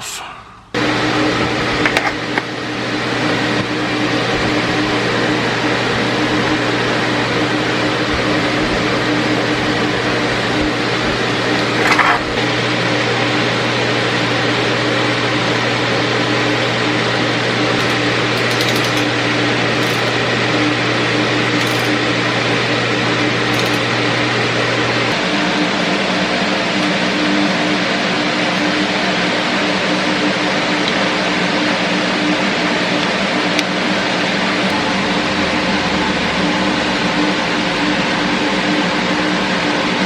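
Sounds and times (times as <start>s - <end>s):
mechanical hum and whir: 0.0s - 40.0s.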